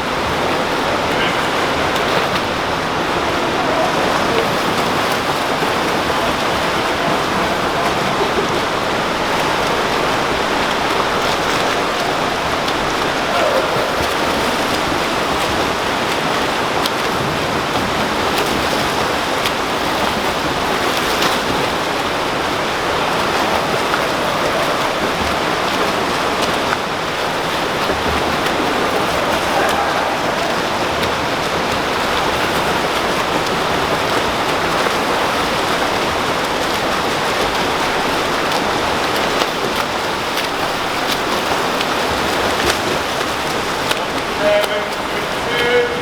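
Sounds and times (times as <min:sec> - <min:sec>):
pool water splashing: 0:00.0 - 0:46.0.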